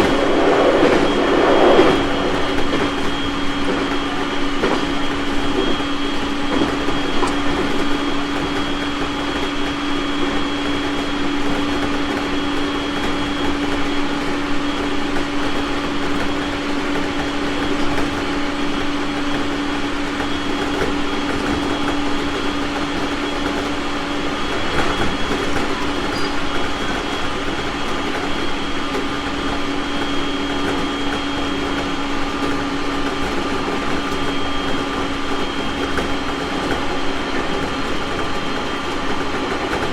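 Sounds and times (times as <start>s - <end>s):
electric train hum and rumble: 0.0s - 39.9s.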